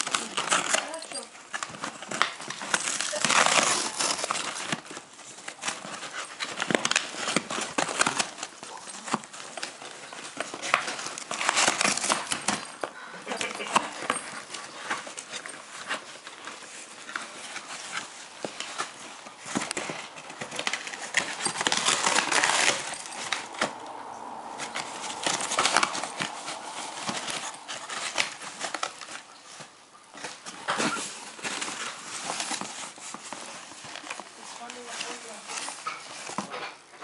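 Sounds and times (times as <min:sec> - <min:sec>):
cardboard box crinkling and rustling: 0:00.0 - 0:37.0.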